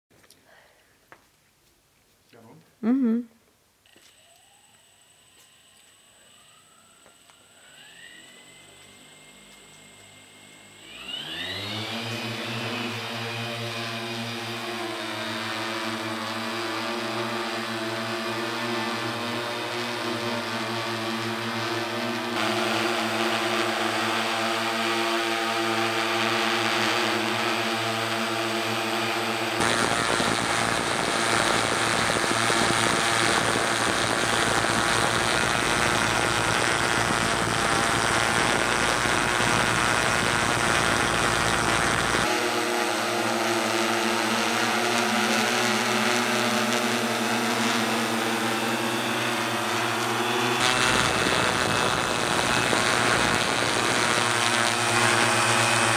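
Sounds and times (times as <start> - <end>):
drone propellers humming: 7.4 - 55.9
rushing rotor noise: 10.7 - 55.9.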